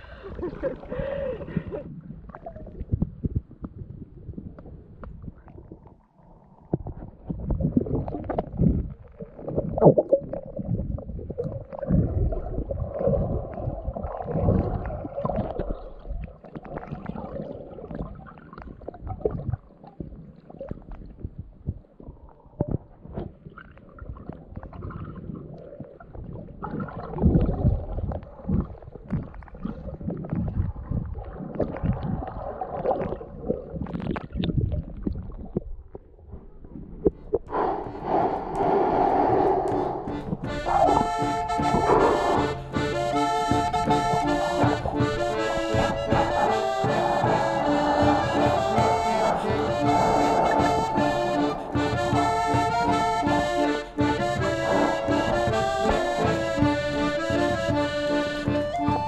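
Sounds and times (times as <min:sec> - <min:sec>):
muffled underwater sloshing: 0:00.0 - 0:59.0.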